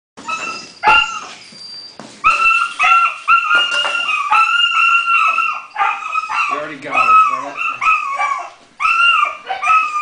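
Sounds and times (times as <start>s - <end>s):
puppy whining and yipping: 0.2s - 10.0s.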